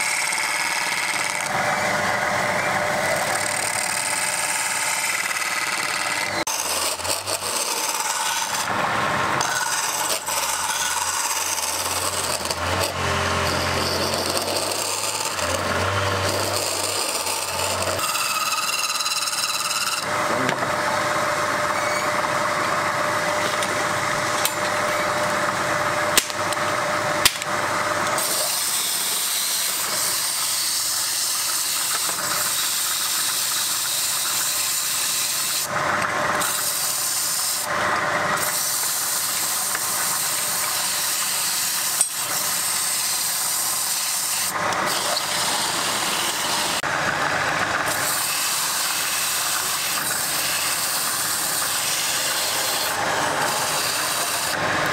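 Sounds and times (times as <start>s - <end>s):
lathe tool scraping wood: 0.0s - 54.9s.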